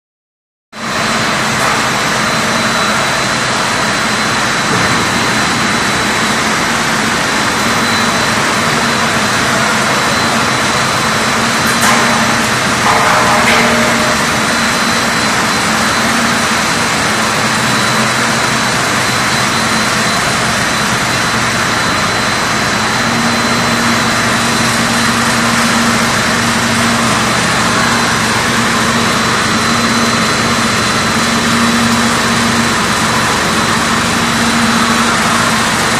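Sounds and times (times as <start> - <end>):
factory machinery whining: 0.8 - 35.9.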